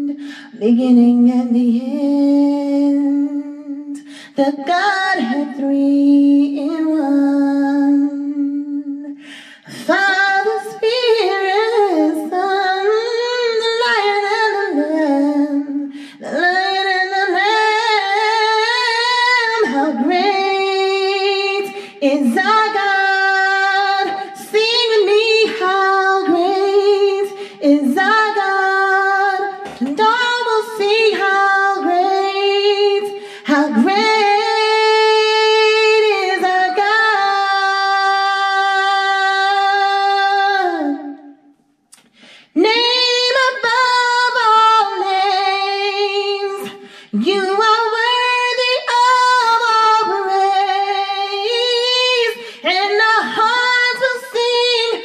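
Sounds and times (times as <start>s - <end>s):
woman singing a cappella: 0.0s - 55.0s.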